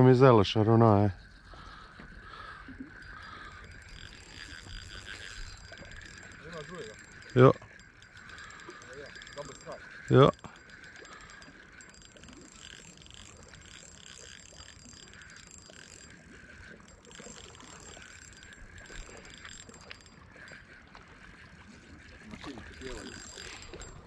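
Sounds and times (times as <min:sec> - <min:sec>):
fishing reel gears whirring: 0:00.0 - 0:24.0.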